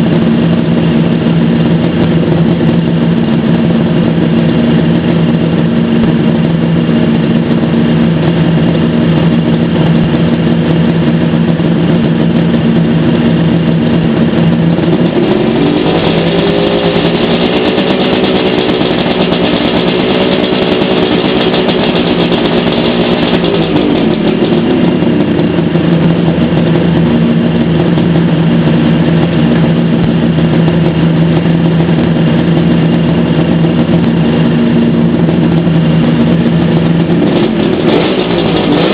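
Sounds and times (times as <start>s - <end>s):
two-stroke engine idling and revving: 0.0s - 38.9s.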